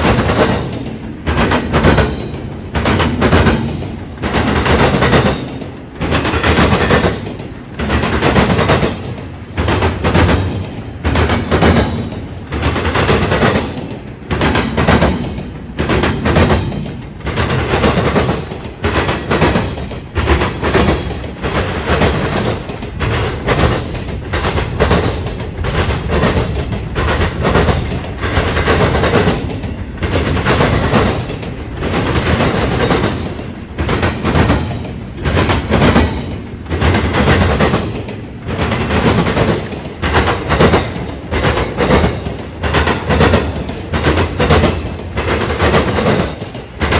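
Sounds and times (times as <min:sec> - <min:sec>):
train wheels clattering over crossing: 0:00.0 - 0:46.9.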